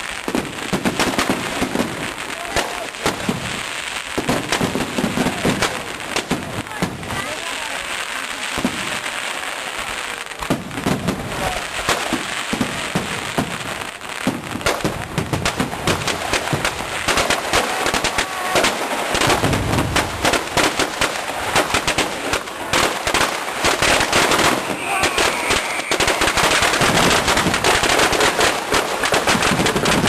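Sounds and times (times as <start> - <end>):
fireworks bangs and cracks: 0.0 - 30.0
fireworks hissing crackle: 0.0 - 30.0.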